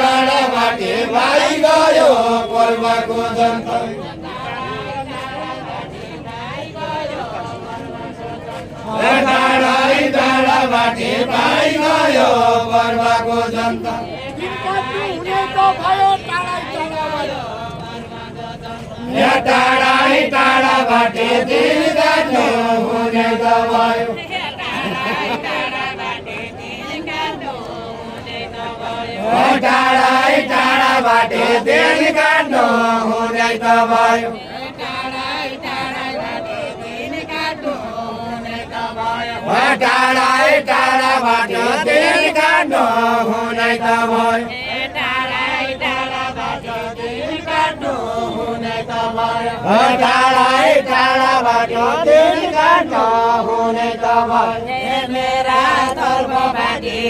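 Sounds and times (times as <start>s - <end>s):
voices chanting folk song: 0.0s - 57.0s.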